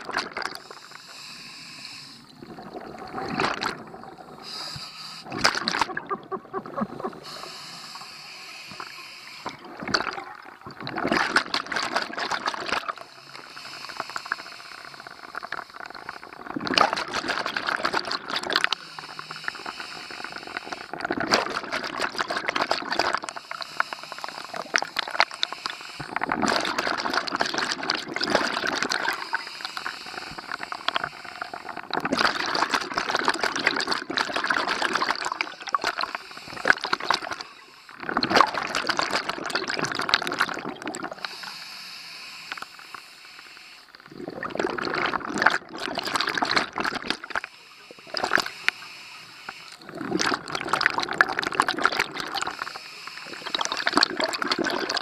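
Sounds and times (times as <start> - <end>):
exhaled bubbles gurgling: 0.0 - 41.7, 43.8 - 55.0.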